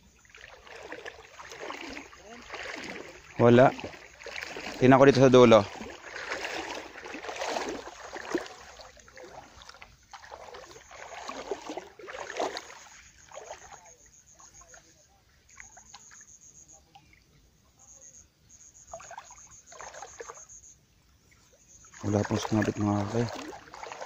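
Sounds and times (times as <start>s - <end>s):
water sloshing and splashing: 0.0s - 18.0s, 18.8s - 24.0s.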